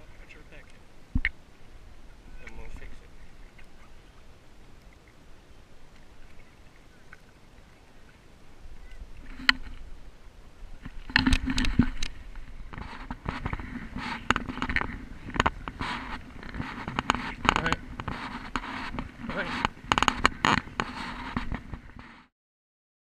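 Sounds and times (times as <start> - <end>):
faint wash of water: 0.0 - 21.8.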